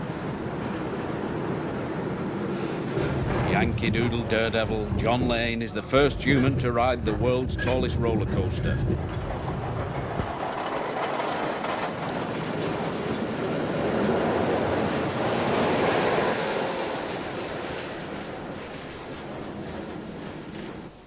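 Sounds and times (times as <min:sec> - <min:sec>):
roller coaster rushing rumble: 0:00.0 - 0:21.0.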